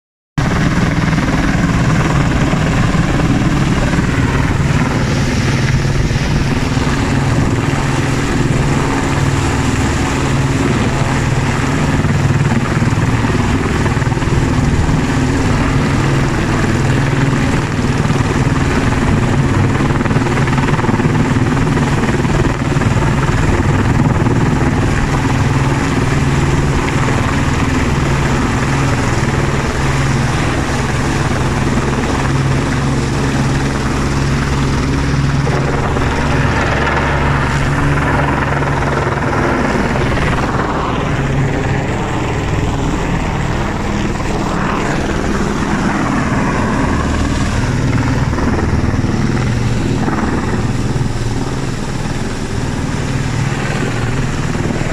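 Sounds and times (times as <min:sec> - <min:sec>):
helicopter rotor and turbine: 0:00.4 - 0:54.9.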